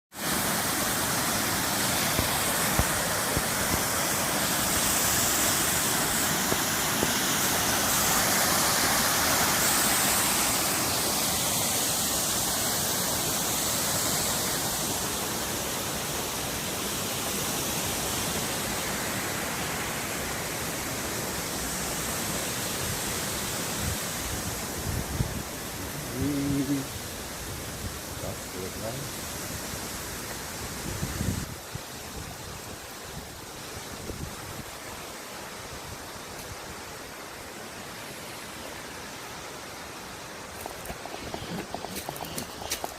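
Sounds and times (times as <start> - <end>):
loud waterfall rushing: 0.1 - 42.9.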